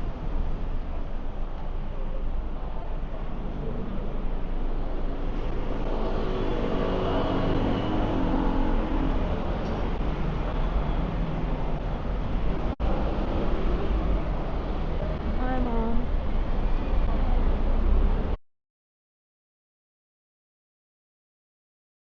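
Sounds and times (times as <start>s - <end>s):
engine hum: 0.0s - 18.4s
vehicles passing on city street: 0.0s - 18.4s.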